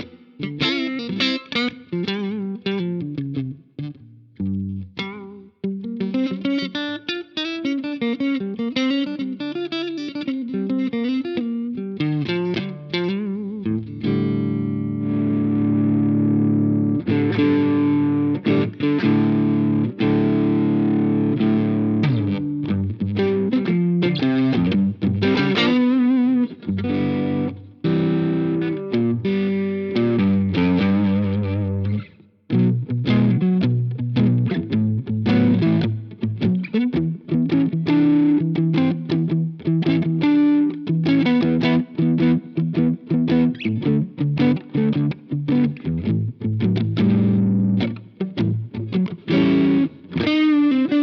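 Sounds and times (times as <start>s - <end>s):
distorted electric guitar: 0.0s - 51.0s.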